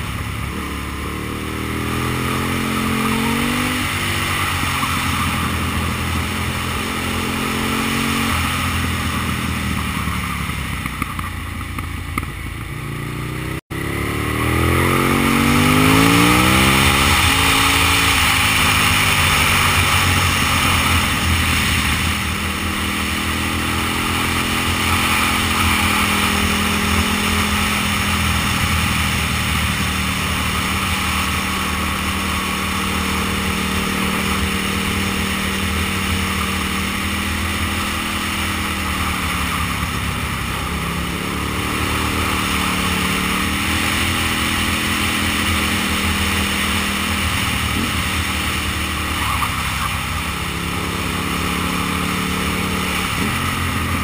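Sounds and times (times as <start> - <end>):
motorcycle engine running: 0.0 - 54.0
rushing wind: 0.0 - 54.0.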